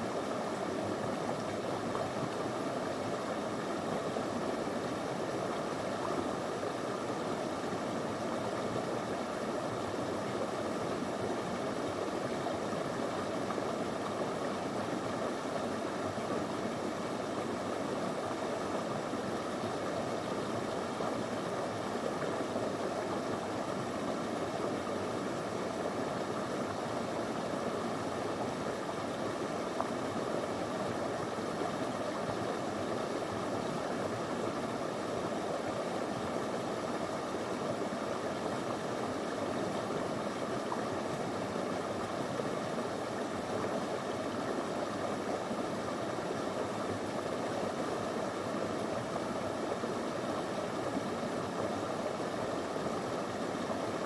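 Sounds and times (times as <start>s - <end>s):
river flowing over stones: 0.0s - 54.0s.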